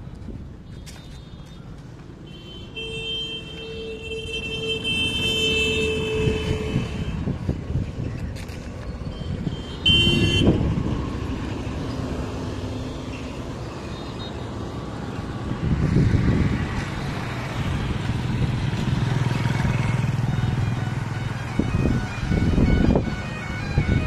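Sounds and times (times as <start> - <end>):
road traffic rumble: 0.0 - 24.0
loud vehicle passing: 3.4 - 24.0.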